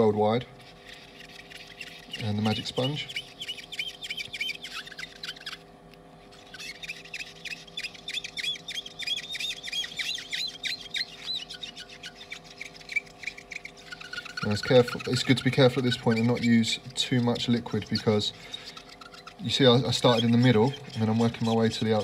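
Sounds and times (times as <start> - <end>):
sponge squeaking on screen: 0.0 - 22.0.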